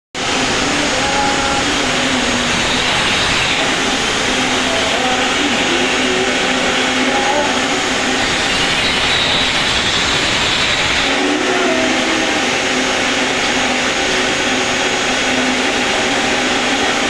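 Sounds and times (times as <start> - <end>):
arc welding hiss: 0.2 - 17.0.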